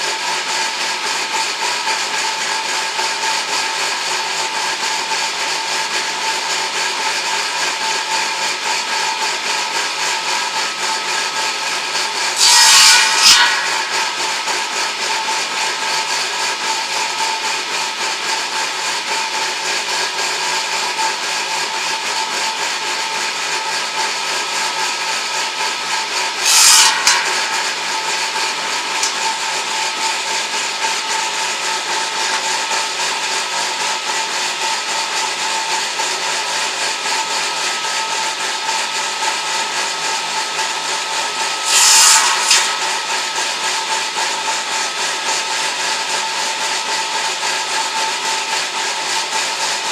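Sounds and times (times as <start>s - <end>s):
saw blade cutting: 0.0s - 49.9s
saw motor whine: 0.0s - 49.9s.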